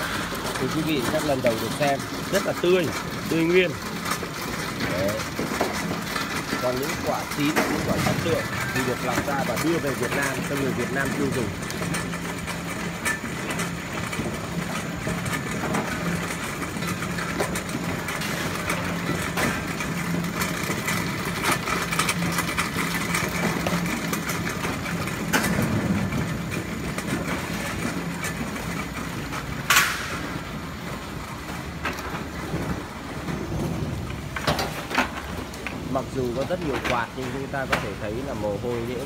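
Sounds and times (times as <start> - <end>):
conveyor motor humming: 0.0 - 39.0.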